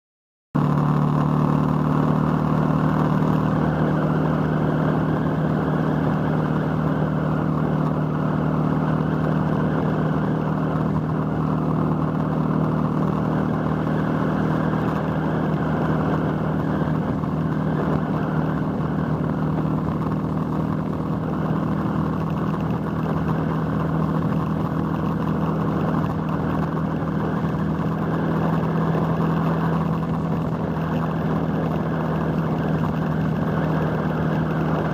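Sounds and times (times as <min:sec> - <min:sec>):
motorcycle engine cruising: 0:00.6 - 0:34.9
road and wind noise: 0:00.6 - 0:34.9.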